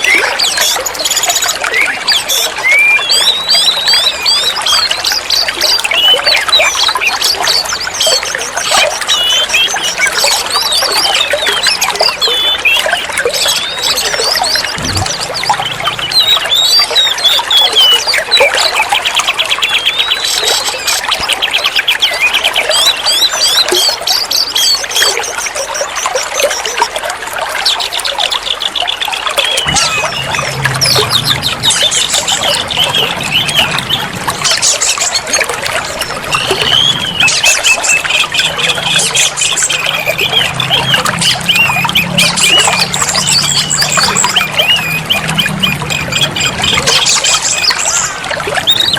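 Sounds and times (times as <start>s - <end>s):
bird singing whistles and trills: 0.0s - 27.0s, 27.6s - 48.9s
trickling water: 0.0s - 48.9s.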